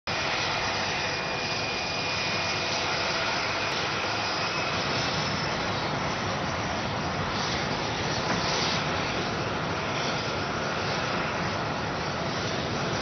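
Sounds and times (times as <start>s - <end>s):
jet aircraft rushing hiss: 0.1s - 13.0s.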